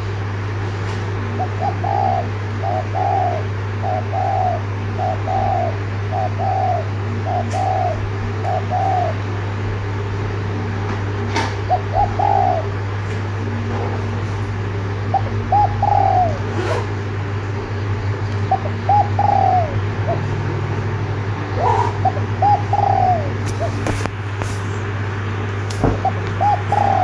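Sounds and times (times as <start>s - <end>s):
steady low hum: 0.0s - 27.0s
dove cooing: 1.1s - 9.9s, 11.1s - 24.1s, 25.8s - 27.0s.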